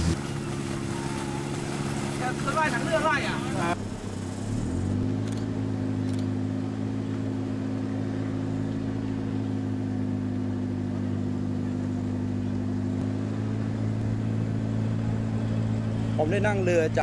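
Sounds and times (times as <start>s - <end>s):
motor boat engine droning: 0.0s - 17.0s.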